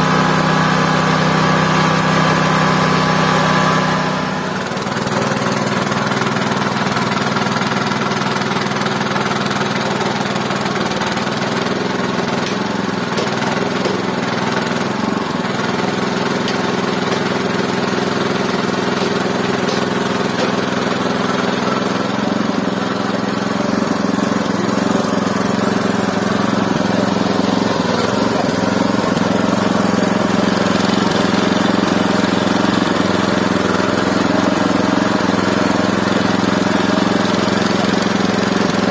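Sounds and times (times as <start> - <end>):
sawmill engine drone: 0.0 - 38.9.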